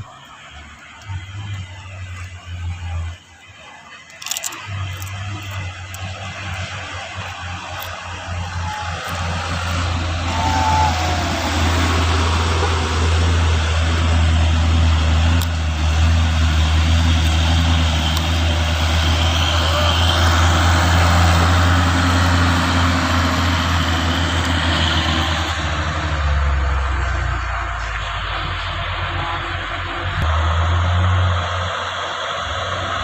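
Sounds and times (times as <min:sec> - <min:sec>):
broad rushing noise: 0:00.0 - 0:33.0
truck engine droning: 0:00.0 - 0:33.0.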